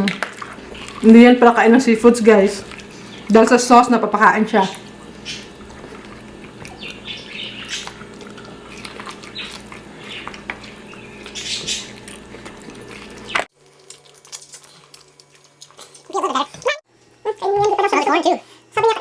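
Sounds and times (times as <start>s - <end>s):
wet eating sounds: 0.0s - 19.0s.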